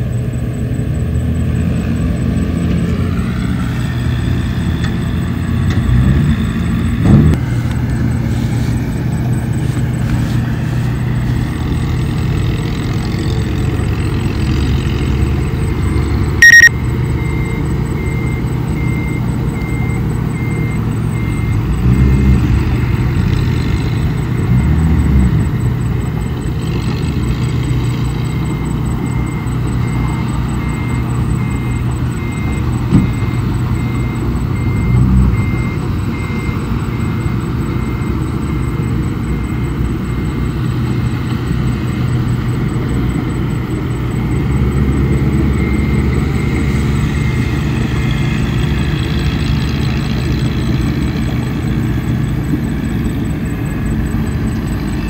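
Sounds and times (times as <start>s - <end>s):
bulldozer diesel engine revving: 0.0s - 55.0s
faint beeping: 0.0s - 55.0s.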